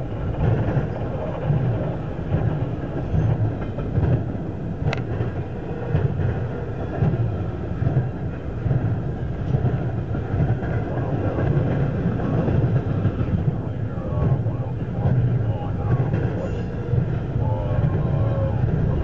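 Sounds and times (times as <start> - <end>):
freight train wheels rumbling: 0.0 - 19.0
rhythmic low clatter: 0.0 - 19.0.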